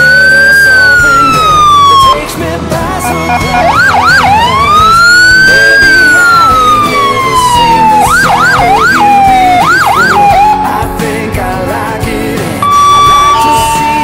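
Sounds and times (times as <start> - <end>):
emergency vehicle siren: 0.0 - 10.8, 12.6 - 14.0
music: 0.0 - 14.0.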